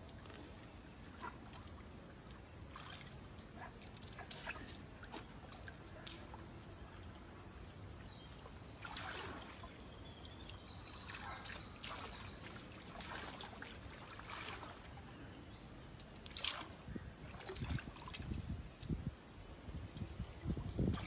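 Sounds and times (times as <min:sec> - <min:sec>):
river water splashing and trickling: 0:00.0 - 0:21.0.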